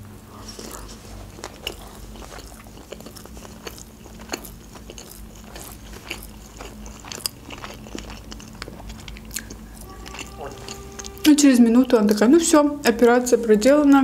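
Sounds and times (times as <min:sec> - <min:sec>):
chewing with wet mouth clicks: 0:00.4 - 0:12.3.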